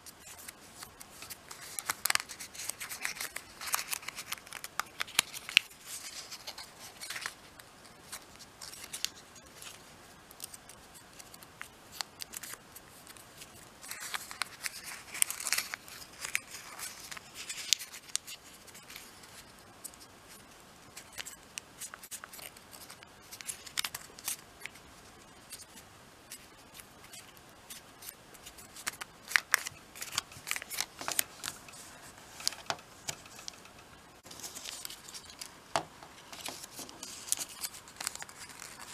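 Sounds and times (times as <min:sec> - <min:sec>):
paper crinkling as folded: 0:00.0 - 0:38.9.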